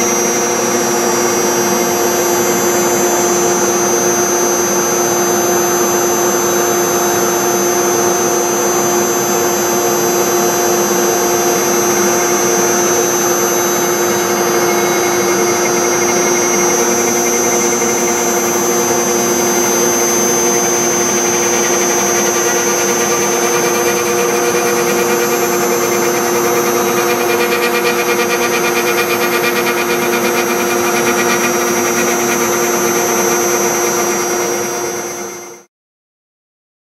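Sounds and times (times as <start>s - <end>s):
router spindle whining while carving: 0.0s - 35.7s.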